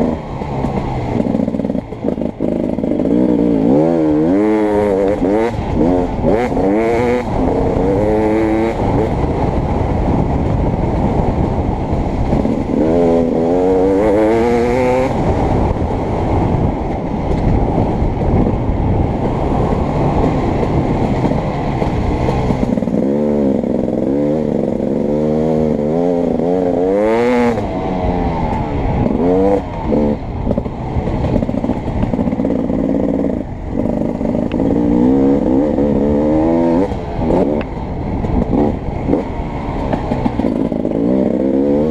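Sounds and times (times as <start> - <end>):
motocross bike engine revving: 0.0 - 9.2, 12.2 - 15.9, 19.3 - 37.7, 38.3 - 41.9.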